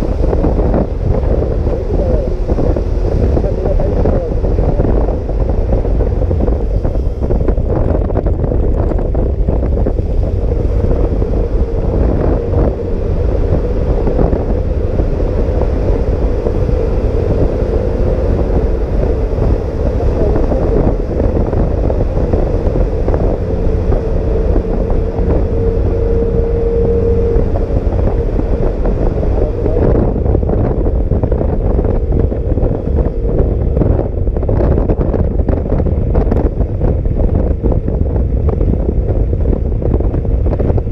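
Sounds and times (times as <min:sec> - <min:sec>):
scooter engine hum: 0:00.0 - 0:40.9
wind buffeting microphone: 0:00.0 - 0:40.9.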